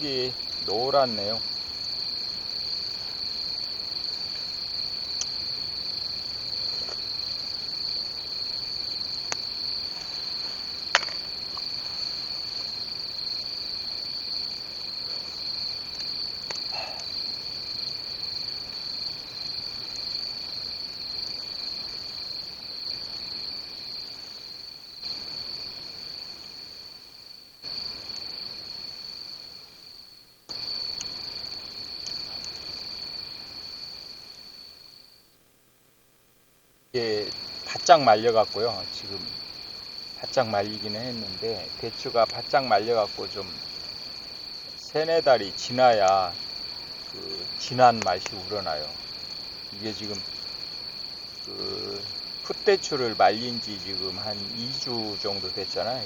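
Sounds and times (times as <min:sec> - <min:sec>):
crickets trilling: 0:00.0 - 0:35.4, 0:36.9 - 0:56.0.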